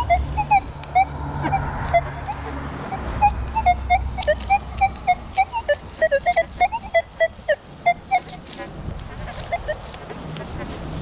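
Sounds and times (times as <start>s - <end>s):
metal detector beeping: 0.0s - 8.6s, 9.4s - 9.9s.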